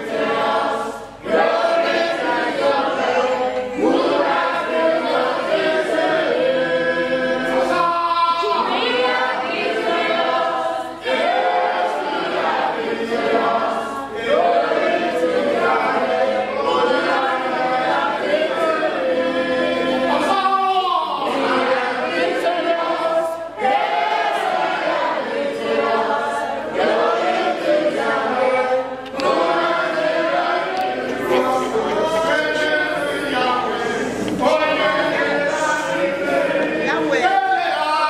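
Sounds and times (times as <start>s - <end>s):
congregation singing: 0.0s - 38.0s.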